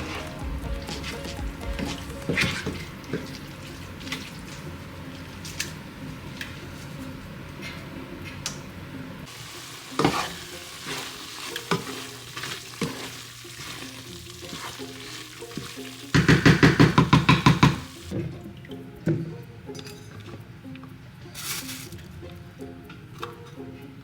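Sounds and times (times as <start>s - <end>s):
food sizzling: 0.0s - 18.2s, 19.7s - 23.6s
spoon stirring food in a frying pan: 0.0s - 23.8s.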